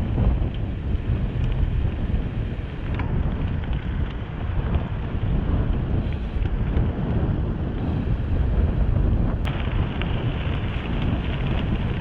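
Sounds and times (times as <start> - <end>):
tyres rumbling on gravel: 0.0 - 12.0
wind buffeting microphone: 0.0 - 12.0.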